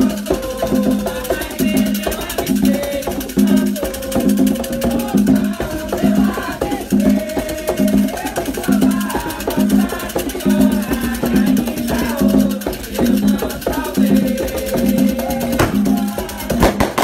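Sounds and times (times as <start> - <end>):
people singing: 0.0 - 17.0
steady drum beat: 0.0 - 17.0.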